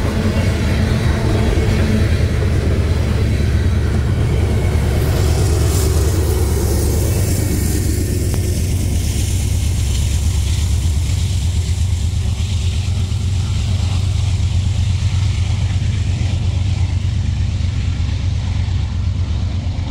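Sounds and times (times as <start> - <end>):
freight train rumbling: 0.0 - 19.9
train hiss: 0.0 - 19.9.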